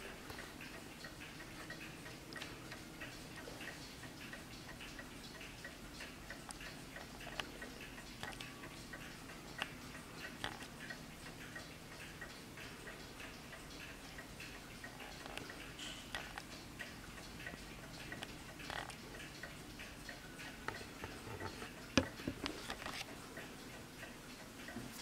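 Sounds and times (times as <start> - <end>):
clock ticking: 0.0 - 25.0.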